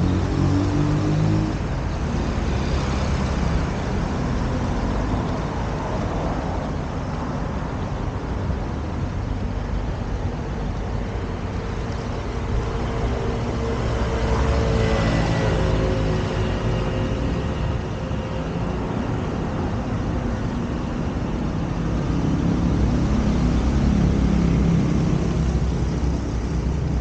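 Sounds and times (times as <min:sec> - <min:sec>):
traffic driving past: 0:00.0 - 0:27.0.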